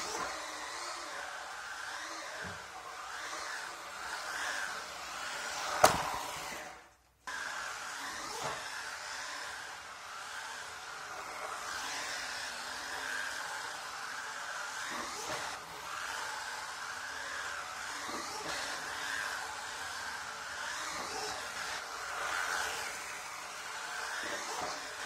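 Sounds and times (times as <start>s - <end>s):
toy car electric motor whining: 0.0s - 25.0s.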